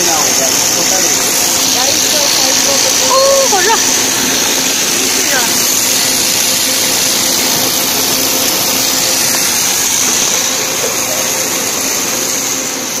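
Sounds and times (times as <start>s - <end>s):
machine whir and hiss: 0.0s - 13.0s.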